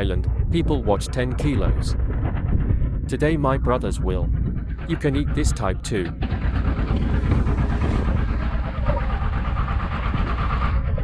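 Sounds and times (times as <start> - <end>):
boat machinery running: 0.0 - 11.0.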